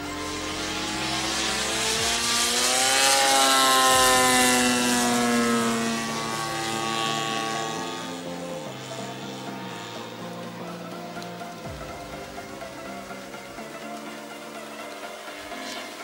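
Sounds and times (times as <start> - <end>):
model airplane engine in flight: 0.0 - 16.0.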